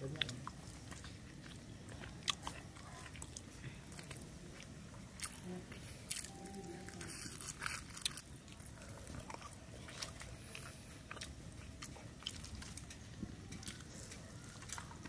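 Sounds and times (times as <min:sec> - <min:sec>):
chewing greens: 0:00.0 - 0:15.0.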